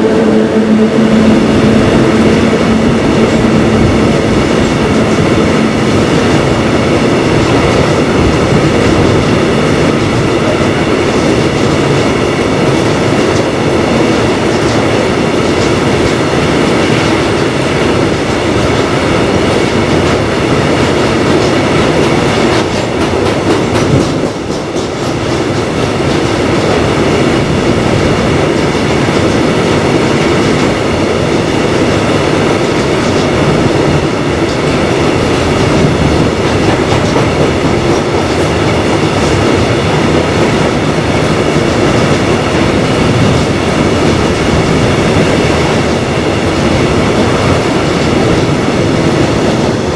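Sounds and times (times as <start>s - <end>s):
freight wagons rumbling on rails: 0.0s - 49.9s.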